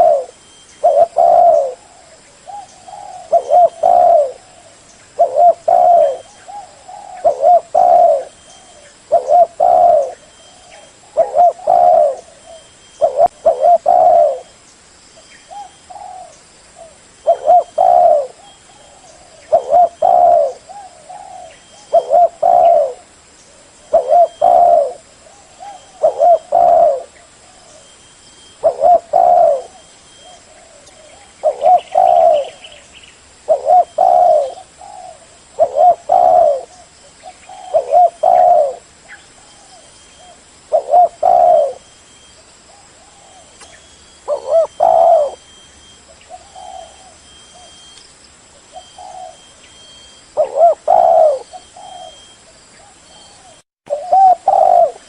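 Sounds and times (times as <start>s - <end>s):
dove cooing: 0.0s - 14.6s, 15.5s - 32.8s, 33.4s - 42.0s, 42.7s - 47.9s, 48.6s - 55.0s.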